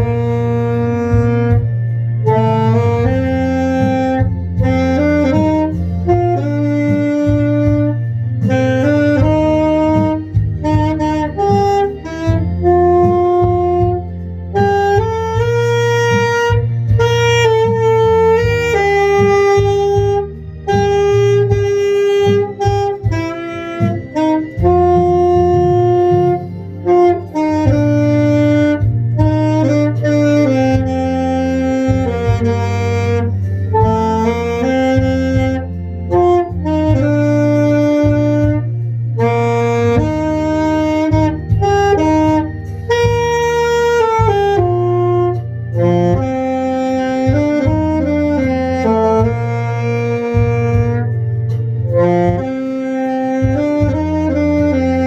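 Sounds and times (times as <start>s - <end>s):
backing track with bass line: 0.0s - 55.0s
solo wind instrument melody: 0.0s - 55.0s.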